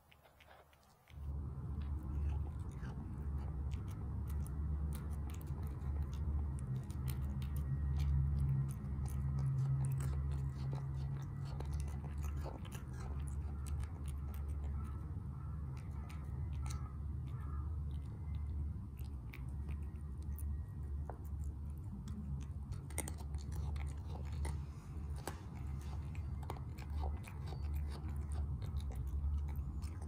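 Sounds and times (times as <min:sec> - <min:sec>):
cat crunching dry kibble: 0:00.0 - 0:30.0
low steady hum: 0:00.0 - 0:30.0.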